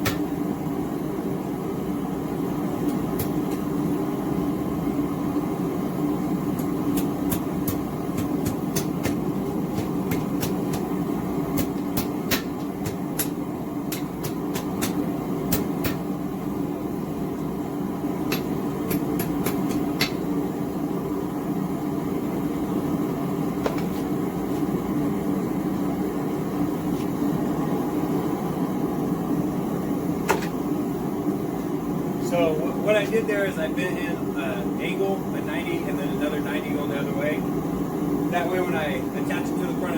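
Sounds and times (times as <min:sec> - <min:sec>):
gas forge burner roaring: 0:00.0 - 0:39.9.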